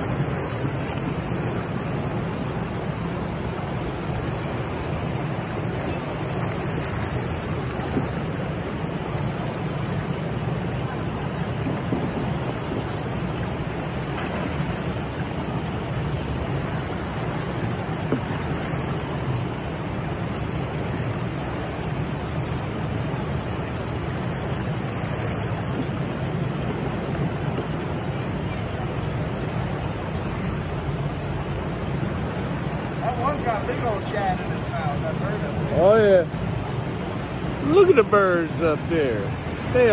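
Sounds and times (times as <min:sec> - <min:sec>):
turbulent water rushing: 0:00.0 - 0:39.9.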